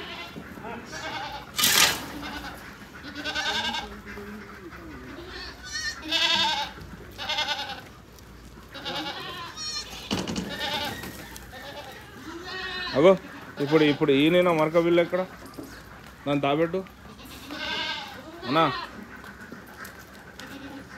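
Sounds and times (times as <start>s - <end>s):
goats bleating: 0.0s - 15.4s, 16.9s - 20.9s.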